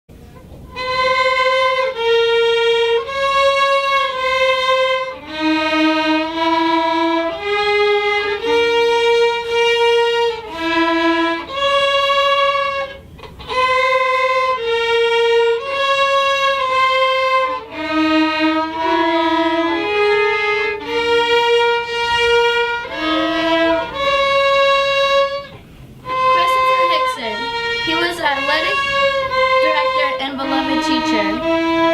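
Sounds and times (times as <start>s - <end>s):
slow melody on one instrument: 0.2s - 31.9s.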